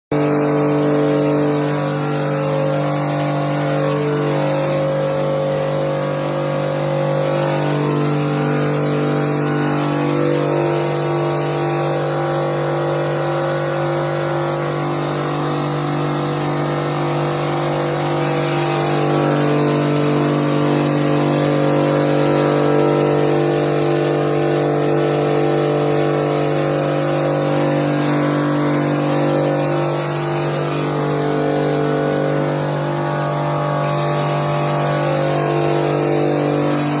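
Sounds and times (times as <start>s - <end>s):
motor humming: 0.1s - 37.0s.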